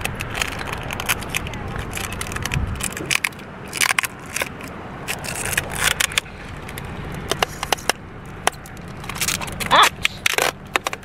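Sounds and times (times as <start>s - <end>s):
steady low hum: 0.0s - 11.0s
tape and cardboard crackling: 0.0s - 11.0s.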